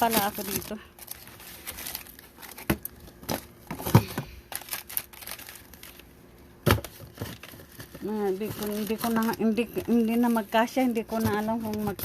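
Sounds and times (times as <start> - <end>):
frozen packs knocking: 0.0 - 6.0, 6.6 - 12.0
plastic bags crinkling: 0.0 - 12.0.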